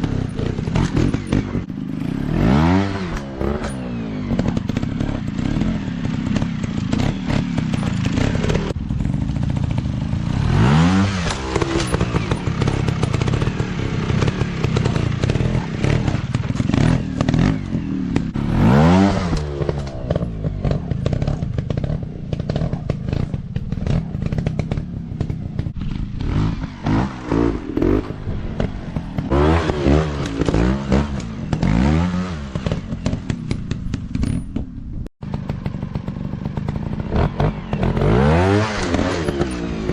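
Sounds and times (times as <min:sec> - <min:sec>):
dirt bike engines revving: 0:00.0 - 0:34.5, 0:35.2 - 0:39.9.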